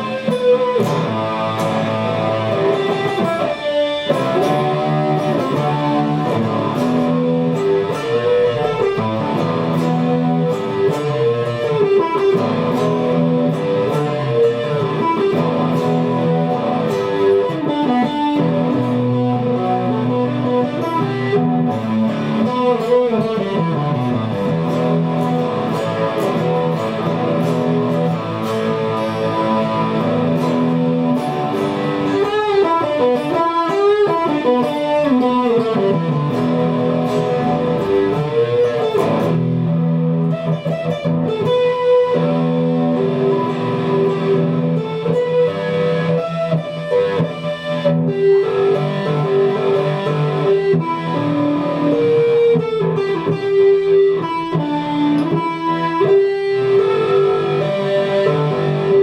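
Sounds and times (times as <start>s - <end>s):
plucked guitar notes: 0.0s - 59.0s.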